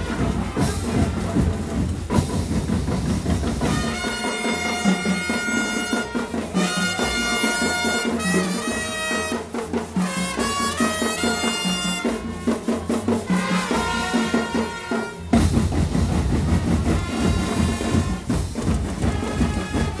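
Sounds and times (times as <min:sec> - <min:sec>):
brass band music: 0:00.0 - 0:20.0
heavy drumming: 0:00.0 - 0:20.0.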